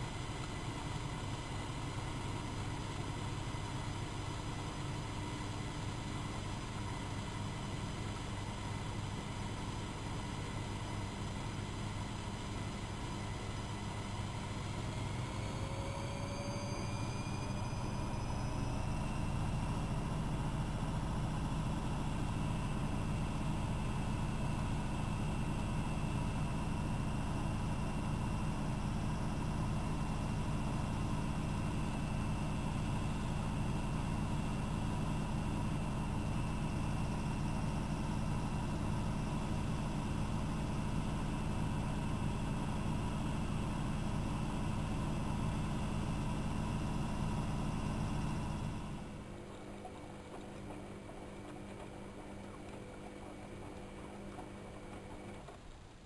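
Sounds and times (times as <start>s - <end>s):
washing machine motor hum: 0.0s - 55.8s
washing machine whine: 0.0s - 56.0s.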